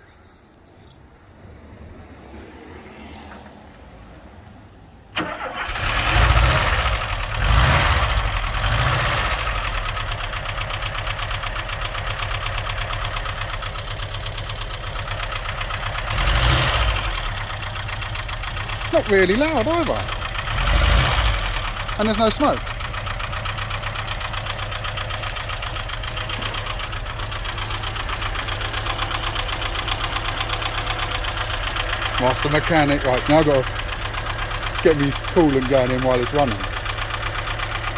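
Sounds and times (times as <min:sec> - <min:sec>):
van engine starting and idling: 0:03.7 - 0:37.9.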